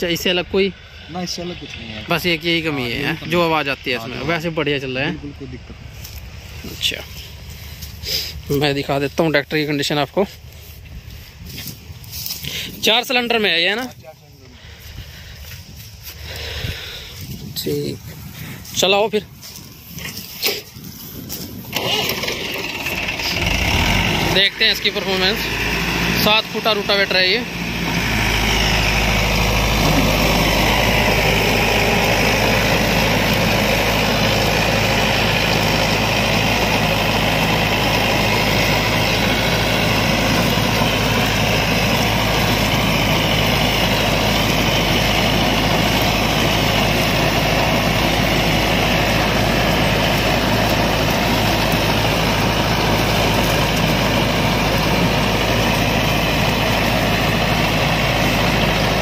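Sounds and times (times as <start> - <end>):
tractor diesel engine under load: 0.0 - 59.0
rotavator blades churning soil: 5.9 - 59.0.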